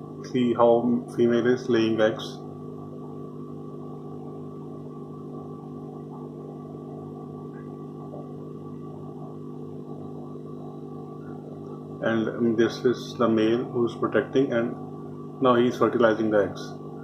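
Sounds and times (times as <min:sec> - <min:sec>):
aquarium pump humming: 0:00.0 - 0:17.0.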